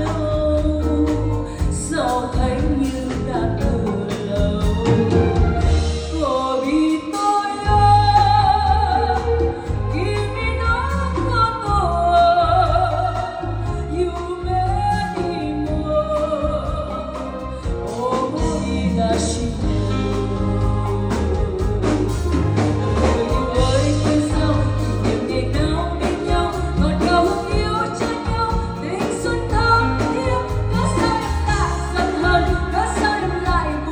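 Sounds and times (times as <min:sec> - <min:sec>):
wavering melodic lead: 0:02.0 - 0:33.9.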